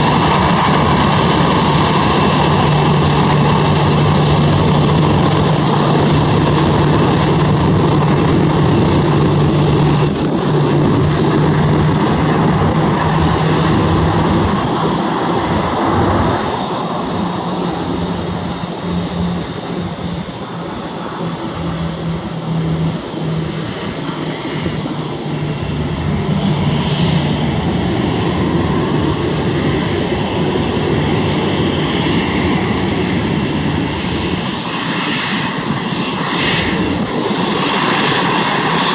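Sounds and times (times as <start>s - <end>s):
jet engines whine and rumble: 0.0s - 38.9s.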